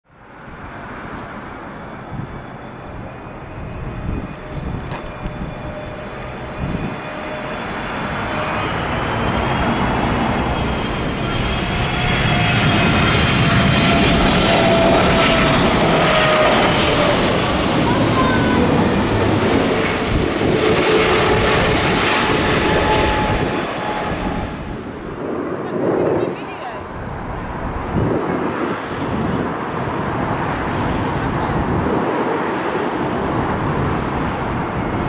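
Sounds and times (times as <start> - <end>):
high engine whine: 0.1 - 35.0
jet airliner engine noise: 0.1 - 35.0
wind buffeting microphone: 0.2 - 35.0.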